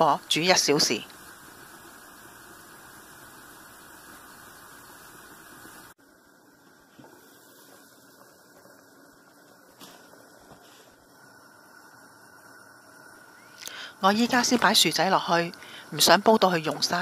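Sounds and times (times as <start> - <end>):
soup bubbling under a lid: 0.4 - 17.0.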